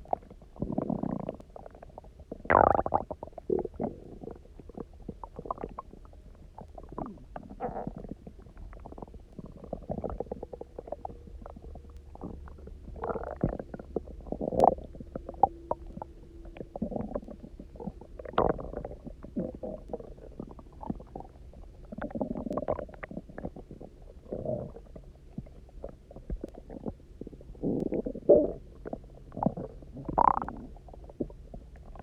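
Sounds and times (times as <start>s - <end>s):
stomach rumbling and gurgling: 0.0s - 32.0s.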